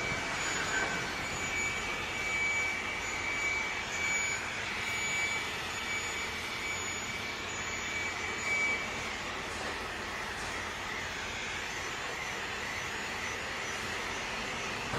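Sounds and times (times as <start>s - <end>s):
thin high machine whine: 0.0s - 14.9s.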